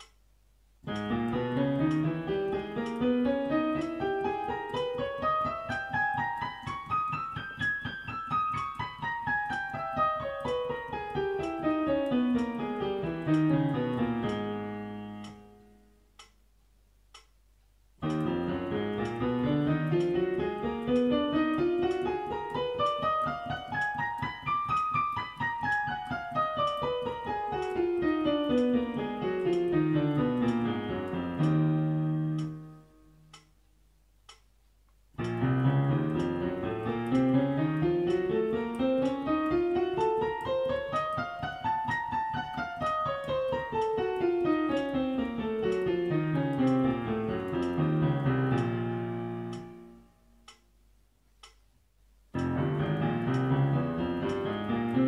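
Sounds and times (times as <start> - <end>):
piano playing scales: 0.8 - 16.2, 18.0 - 33.4, 35.2 - 50.5, 52.3 - 55.0.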